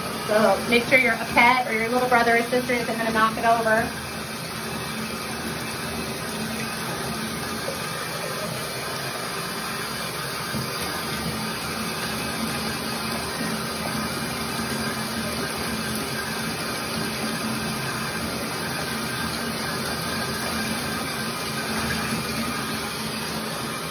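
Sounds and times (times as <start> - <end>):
faucet water running into tub: 0.0 - 23.9.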